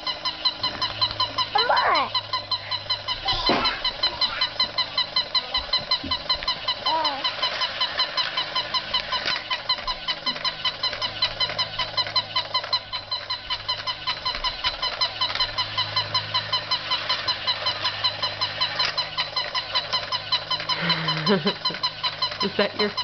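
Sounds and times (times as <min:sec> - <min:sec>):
toy honking electronic notes: 0:00.0 - 0:23.0.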